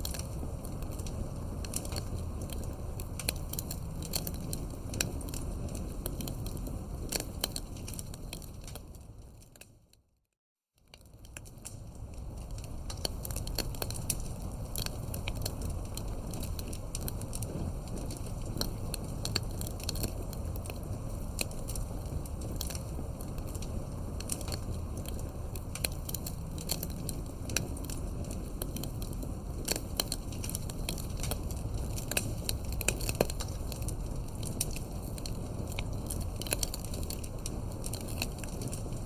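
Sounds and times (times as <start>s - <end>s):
wood fire crackling and popping: 0.0s - 9.9s, 10.8s - 39.0s
low rumble of flames: 0.0s - 10.1s, 10.8s - 39.0s.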